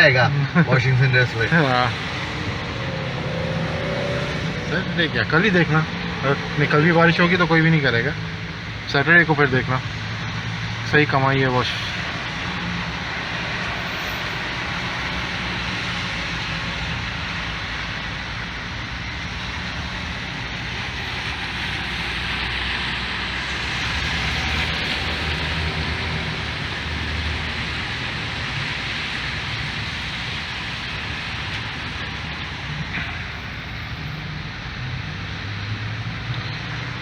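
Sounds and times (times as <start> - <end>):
rain hissing: 0.0 - 34.9
low vehicle hum: 0.0 - 37.0
tyres on wet road: 0.0 - 37.0.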